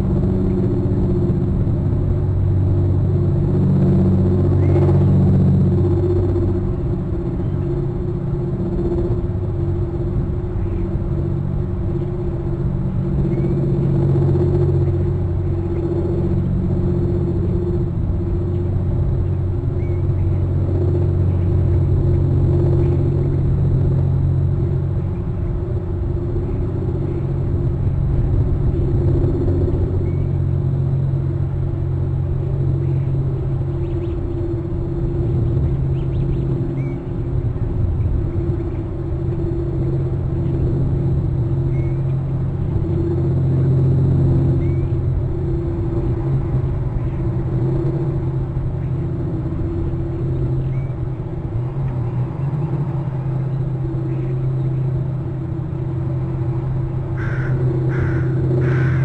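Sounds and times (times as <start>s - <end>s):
low droning rumble: 0.0s - 59.0s.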